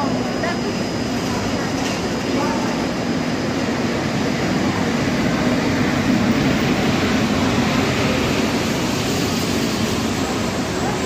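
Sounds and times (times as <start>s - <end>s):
locomotive engine noise: 0.0s - 11.0s
train wheels rolling on rails: 1.0s - 11.0s.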